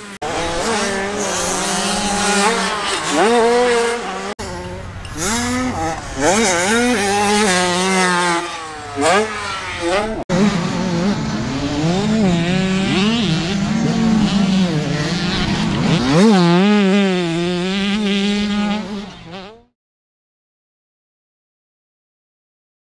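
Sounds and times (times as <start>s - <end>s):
dirt bike engine revving: 0.0s - 19.7s.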